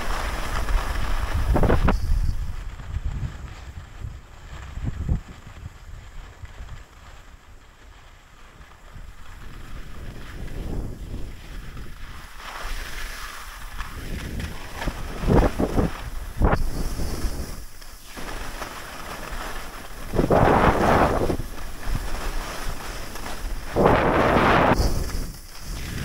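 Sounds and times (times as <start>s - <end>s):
wind on microphone: 0.0s - 7.1s, 8.9s - 12.9s, 13.6s - 17.8s, 19.2s - 26.0s
skis scraping over snow: 0.0s - 26.0s.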